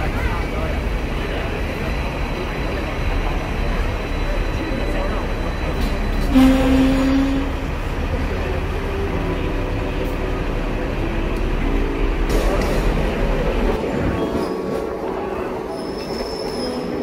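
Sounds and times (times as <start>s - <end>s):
tram rumbling along street: 0.0s - 17.0s.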